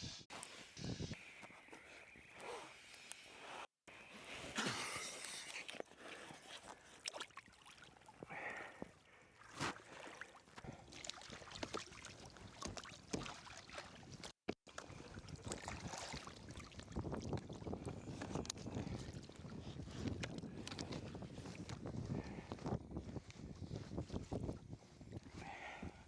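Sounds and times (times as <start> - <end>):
water splashing around a kayak: 4.4 - 25.9.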